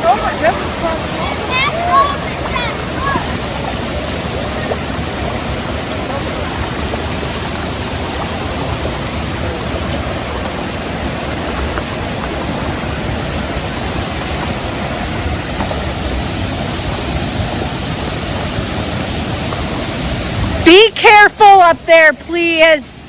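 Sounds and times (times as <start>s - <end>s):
water pouring over waterfall: 0.0s - 21.8s.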